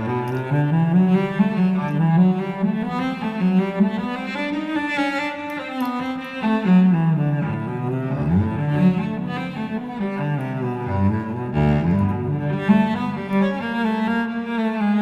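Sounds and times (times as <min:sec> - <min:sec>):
low bowed strings music: 0:00.0 - 0:15.0.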